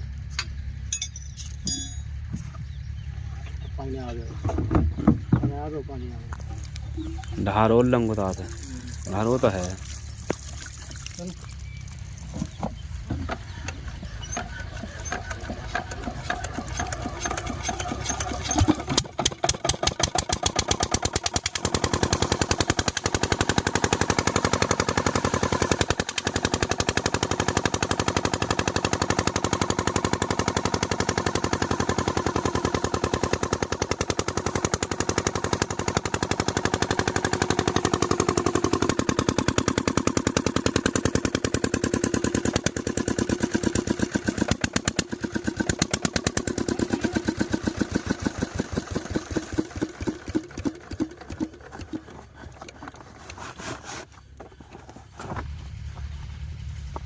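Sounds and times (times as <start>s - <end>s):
diesel pump engine chugging: 0.0s - 57.0s.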